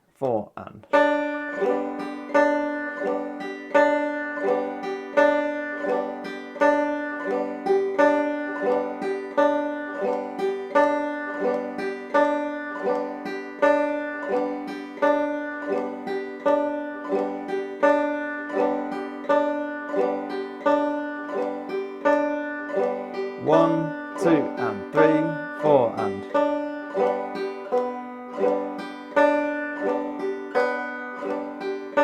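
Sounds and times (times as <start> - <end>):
banjo strumming: 0.8 - 32.0.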